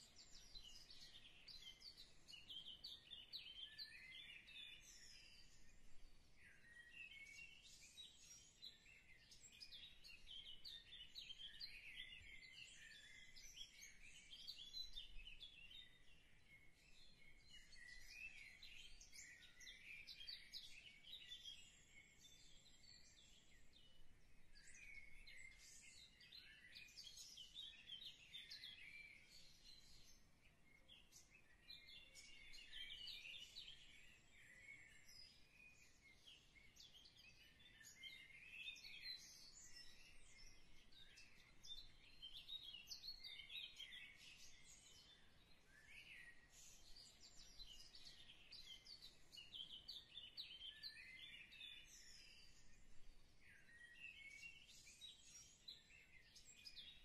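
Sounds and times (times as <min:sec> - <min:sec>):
birds chirping faintly: 0:00.0 - 0:57.0.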